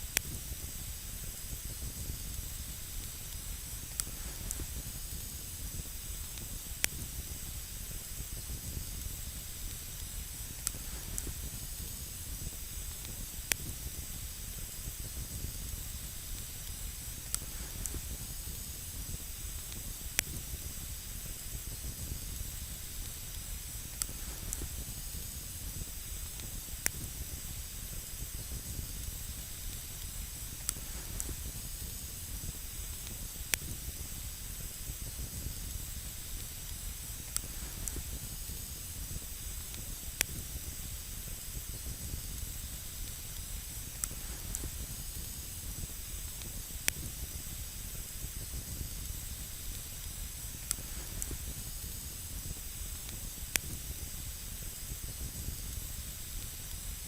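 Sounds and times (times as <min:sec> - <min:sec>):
burning wood crackles: 0:00.0 - 0:57.0
campfire hiss: 0:00.0 - 0:57.0
low fire rumble: 0:00.0 - 0:57.0.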